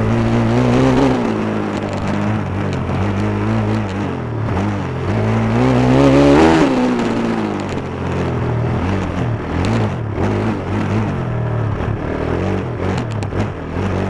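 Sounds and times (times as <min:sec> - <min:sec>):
pit bike engine revving: 0:00.0 - 0:14.0.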